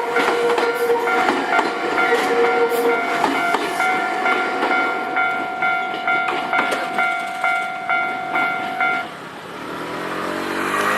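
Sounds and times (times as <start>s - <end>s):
level crossing bell clanging: 0.0s - 9.1s
train passing on tracks: 0.0s - 10.9s.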